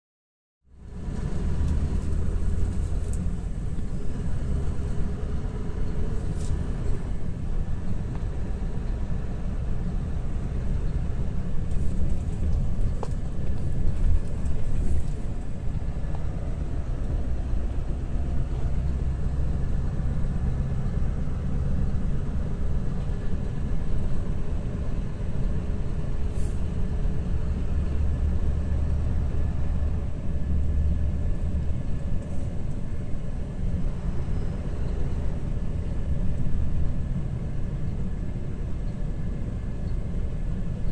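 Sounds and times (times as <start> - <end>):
road noise: 0.6 - 40.9
truck diesel engine rumbling: 0.7 - 40.9.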